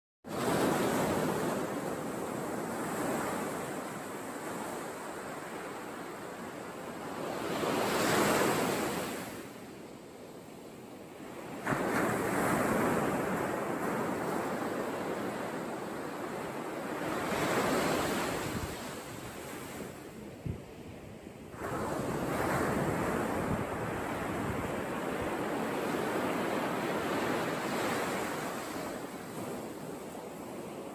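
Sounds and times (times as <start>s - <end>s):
wind: 0.2s - 30.9s.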